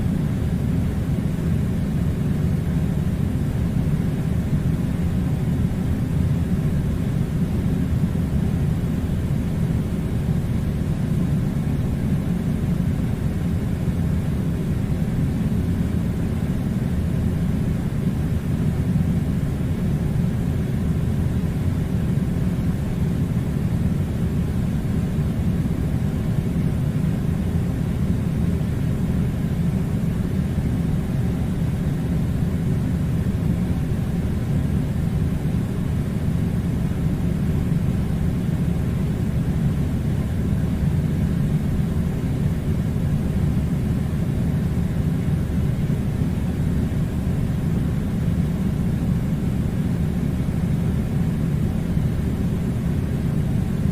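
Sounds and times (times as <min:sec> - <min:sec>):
air conditioner running: 0:00.0 - 0:53.9.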